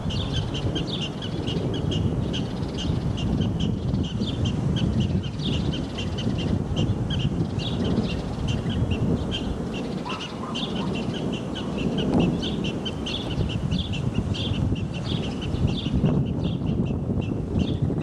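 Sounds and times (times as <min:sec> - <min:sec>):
bird chirping: 0:00.0 - 0:18.0
wind rumbling on microphone: 0:00.0 - 0:18.0.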